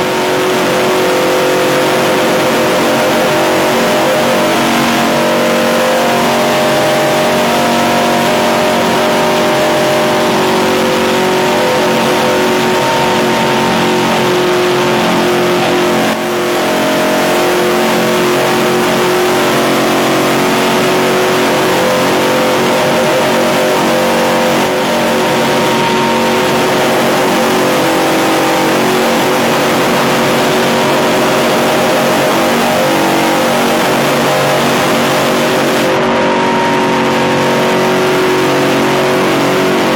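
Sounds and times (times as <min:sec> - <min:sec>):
race truck engine at high revs: 0:00.0 - 0:39.9.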